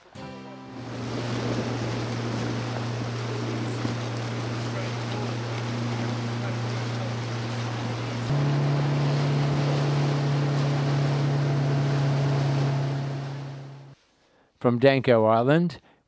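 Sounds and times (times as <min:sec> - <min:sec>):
wind: 0:00.0 - 0:14.0
outboard motor running: 0:00.7 - 0:14.0.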